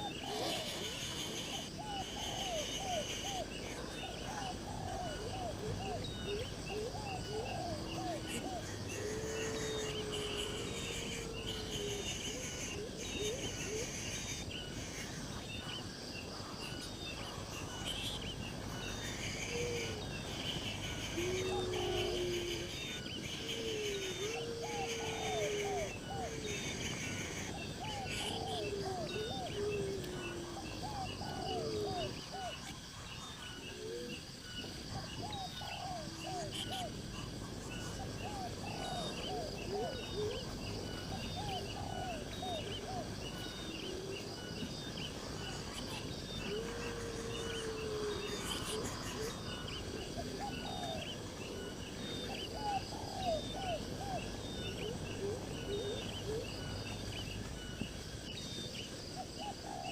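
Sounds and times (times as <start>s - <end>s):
birds calling: 0.0s - 59.9s
insects chirring: 0.0s - 59.9s.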